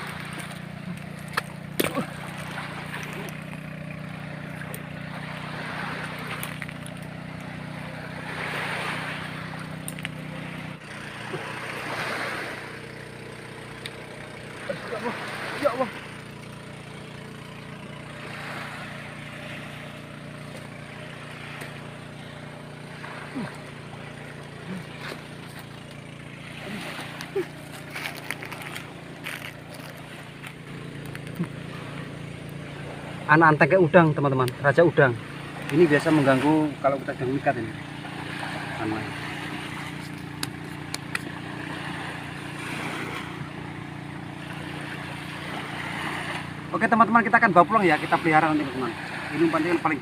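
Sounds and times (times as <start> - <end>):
distant engine drone: 0.0 - 50.0.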